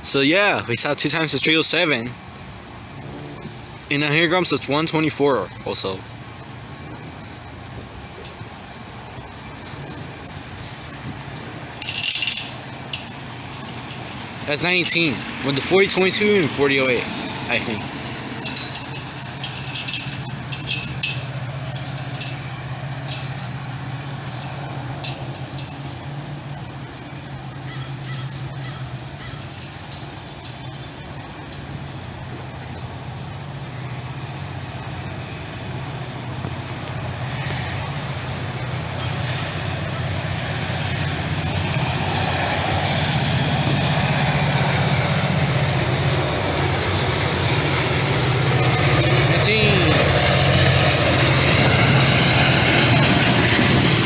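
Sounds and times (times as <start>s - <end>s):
diesel locomotive droning: 0.0s - 54.0s.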